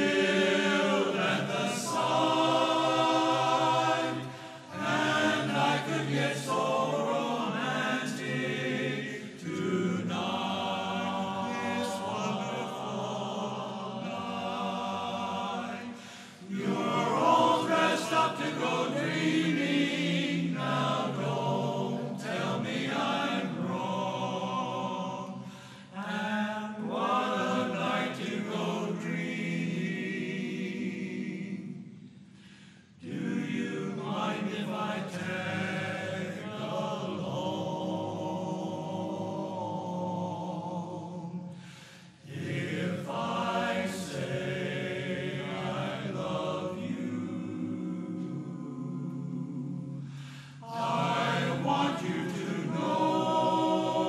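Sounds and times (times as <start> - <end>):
male chorus singing a cappella: 0.0 - 54.0.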